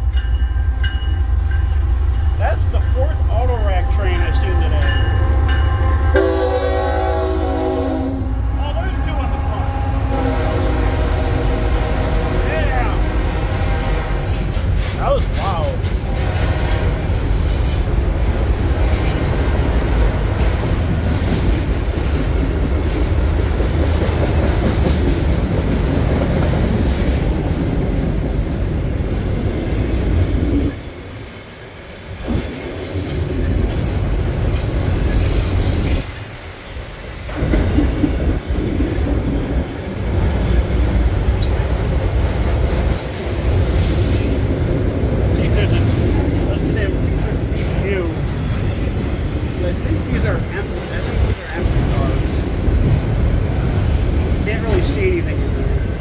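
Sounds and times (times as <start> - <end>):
train clatter: 0.0 - 56.0
train wheels rumbling on rail: 0.0 - 56.0.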